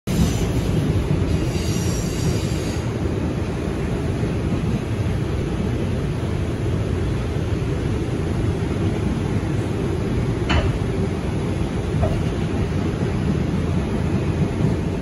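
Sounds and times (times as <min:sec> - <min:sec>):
subway wheels rumbling: 0:00.1 - 0:15.0.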